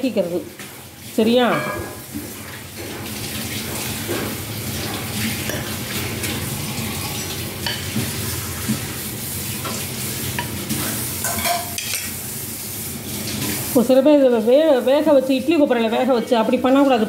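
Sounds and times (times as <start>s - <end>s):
gravy bubbling in a pot: 0.2s - 13.9s.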